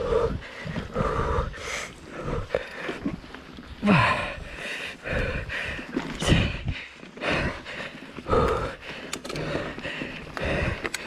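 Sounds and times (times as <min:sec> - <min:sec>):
person panting hard: 0:00.0 - 0:11.0.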